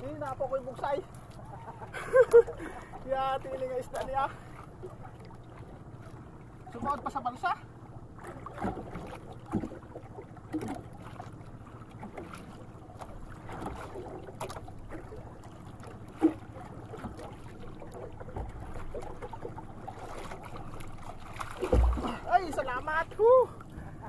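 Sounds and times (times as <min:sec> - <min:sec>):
water noise around boat: 0:00.0 - 0:24.0.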